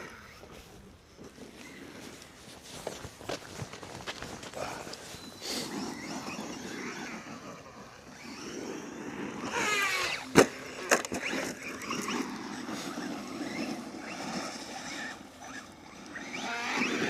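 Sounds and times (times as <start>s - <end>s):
rc truck electric motor whining: 0.0s - 2.0s, 5.2s - 17.0s.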